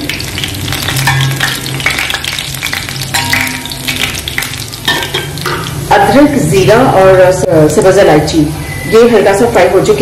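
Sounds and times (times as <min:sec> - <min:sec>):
spices sizzling in hot ghee: 0:00.0 - 0:10.0.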